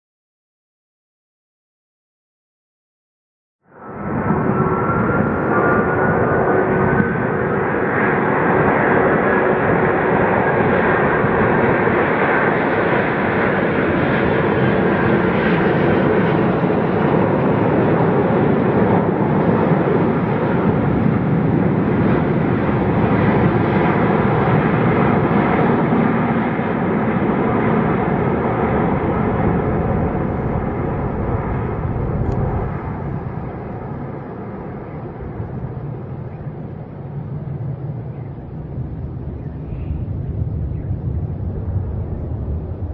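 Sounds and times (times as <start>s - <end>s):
jet engine rumble with whine: 3.6s - 42.9s.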